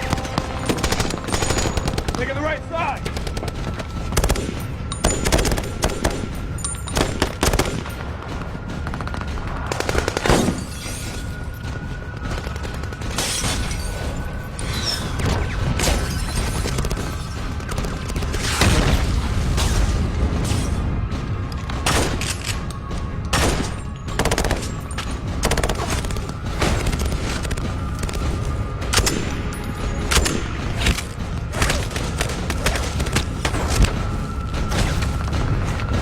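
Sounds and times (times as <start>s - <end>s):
tense film score music: 0.0s - 36.0s.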